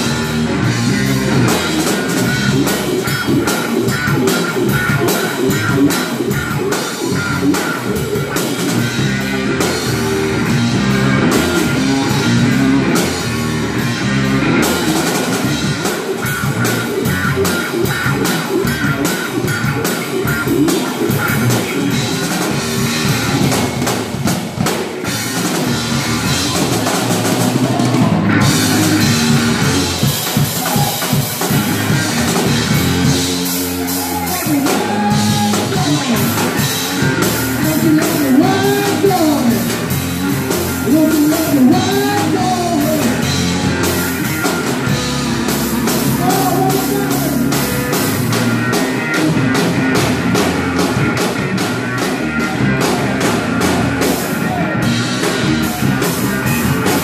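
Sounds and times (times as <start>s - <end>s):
sliding guitar melody: 0.0s - 30.5s, 31.1s - 57.0s
blues-rock band playing: 0.0s - 57.0s.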